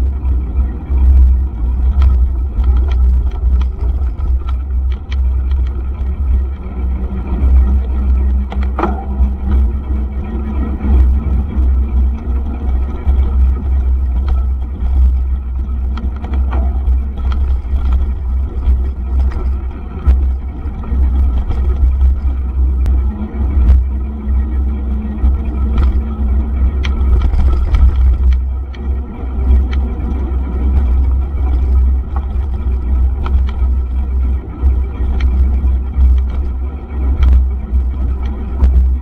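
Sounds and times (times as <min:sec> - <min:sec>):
bike and stones rattling: 0:00.0 - 0:39.0
wind buffeting: 0:00.0 - 0:39.0.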